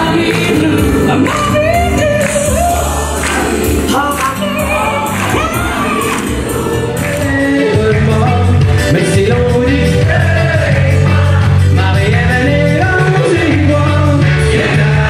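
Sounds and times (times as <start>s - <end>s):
man singing: 0.0s - 6.1s, 6.7s - 15.0s
low bass line: 0.0s - 15.0s.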